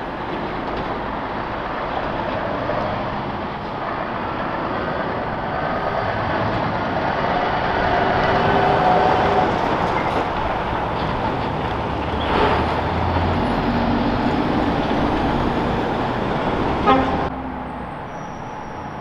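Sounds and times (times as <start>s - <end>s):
heavy city traffic: 0.0s - 19.0s
truck passing close by: 0.0s - 19.0s.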